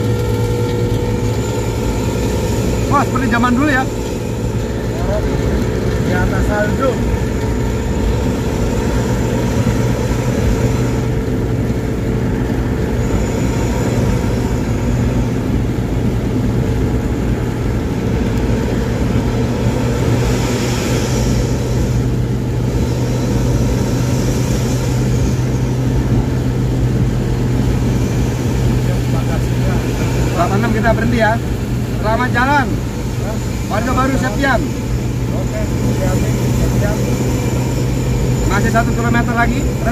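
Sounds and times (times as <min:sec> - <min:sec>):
bus exhaust drone: 0:00.0 - 0:39.9
tyre and road noise: 0:00.0 - 0:39.9.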